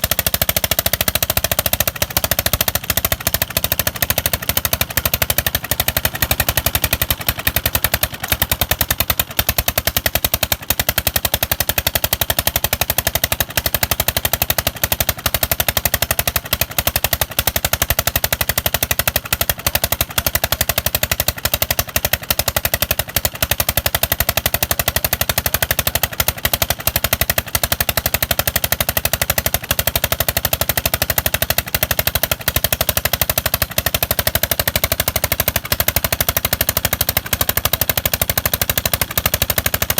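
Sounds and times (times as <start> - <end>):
diesel engine running: 0.0 - 39.9
hand-crank start: 0.0 - 39.9.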